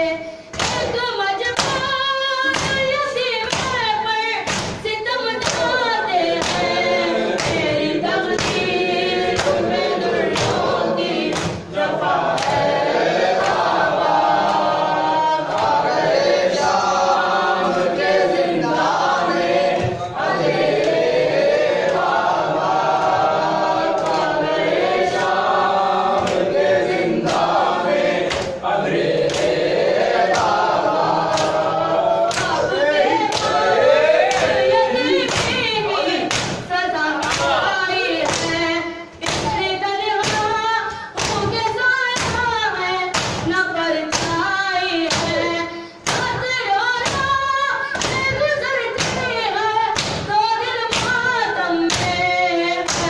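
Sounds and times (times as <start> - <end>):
group chanting in unison: 0.0 - 53.0
rhythmic chest-beating slaps: 0.0 - 53.0.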